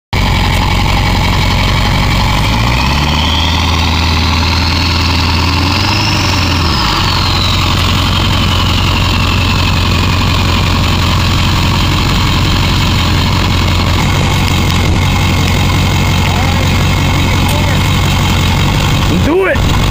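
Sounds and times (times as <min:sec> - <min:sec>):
diesel pickup engine revving: 0:00.1 - 0:19.9
turbo whine: 0:00.1 - 0:19.9.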